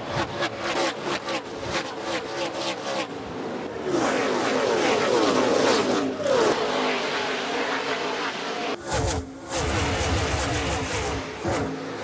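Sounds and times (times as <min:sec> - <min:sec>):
race cars passing at speed: 0:00.0 - 0:12.0.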